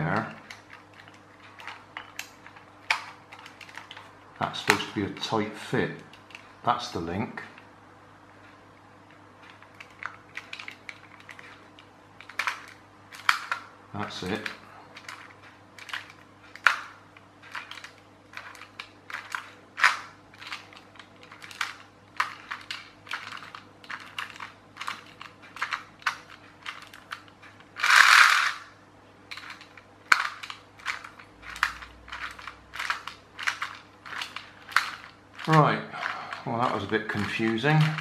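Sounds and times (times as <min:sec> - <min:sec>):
plastic gears clicking: 0:00.0 - 0:04.9, 0:09.4 - 0:28.7, 0:29.3 - 0:38.0.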